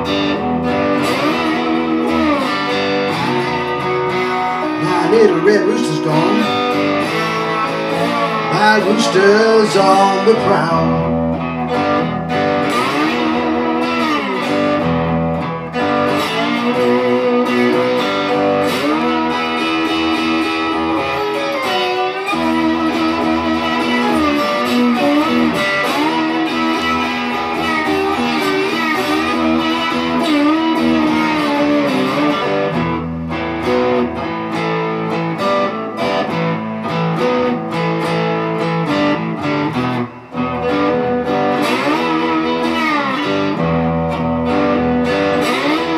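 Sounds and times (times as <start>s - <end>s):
electric guitar playing slow blues: 0.0s - 45.9s.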